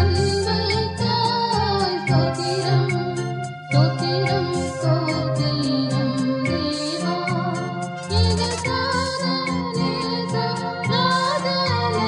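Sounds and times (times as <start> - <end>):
keyboard accompaniment: 0.0 - 12.0
steady beat: 0.0 - 12.0
voices singing: 0.0 - 12.0.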